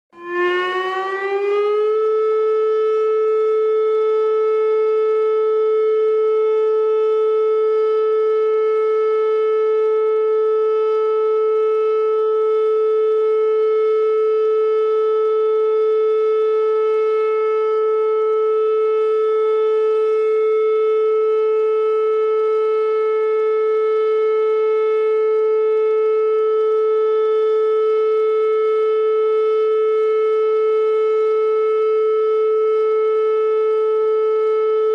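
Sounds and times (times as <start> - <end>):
warning siren: 0.1 - 34.9.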